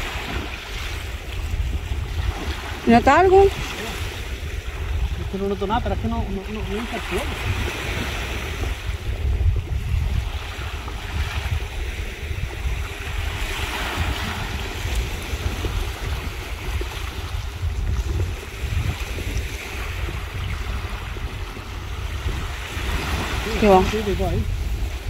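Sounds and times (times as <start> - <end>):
surf washing on shore: 0.0 - 25.0
wind buffeting microphone: 0.0 - 25.0.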